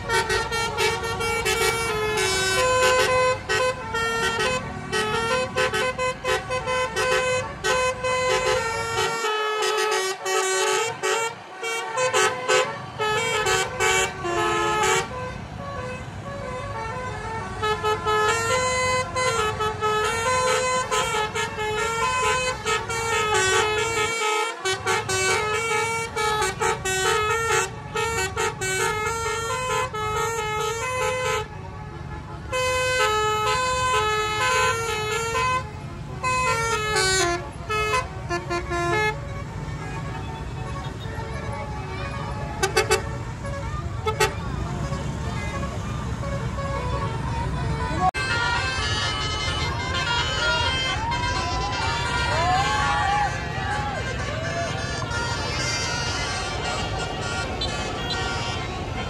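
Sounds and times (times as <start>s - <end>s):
bus and motorbike engines running: 0.0s - 59.0s
musical bus horn playing a tune: 0.0s - 59.0s.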